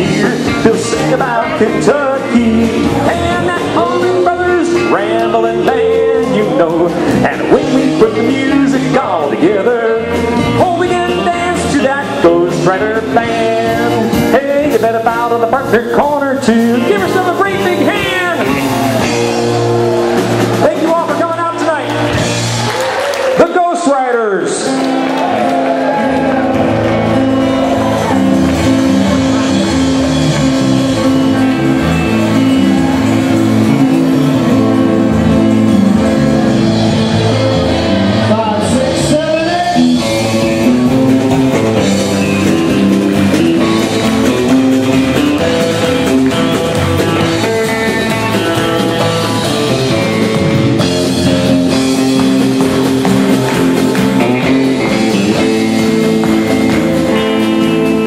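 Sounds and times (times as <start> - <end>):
band playing guitar-led instrumental: 0.0 - 58.0
bass line: 0.0 - 58.0.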